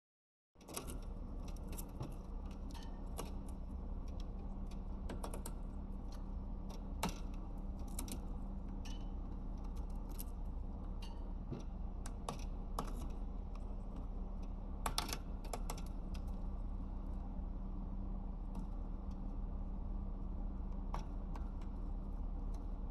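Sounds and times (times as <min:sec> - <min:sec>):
steady low hum: 0:00.6 - 0:22.9.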